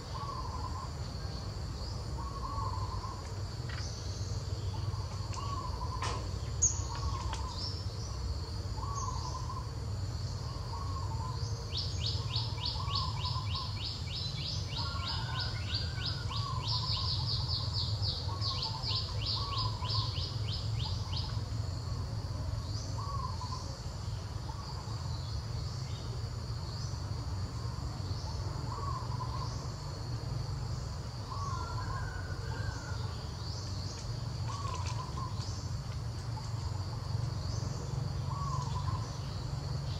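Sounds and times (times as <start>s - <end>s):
insect buzz: 0.0s - 39.9s.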